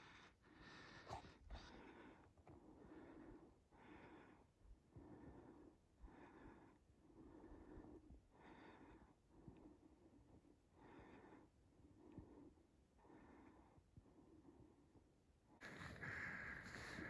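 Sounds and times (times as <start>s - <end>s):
person breathing hard: 0.0s - 14.9s, 15.6s - 17.0s.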